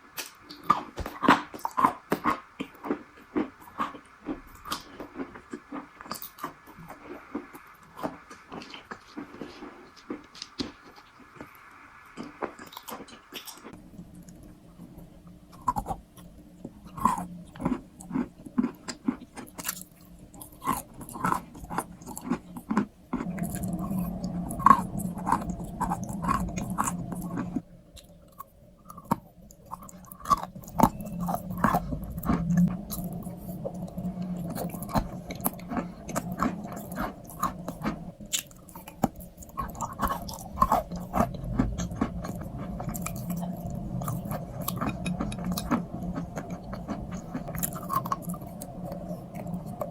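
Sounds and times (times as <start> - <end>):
crunchy chewing: 0.1 - 49.9.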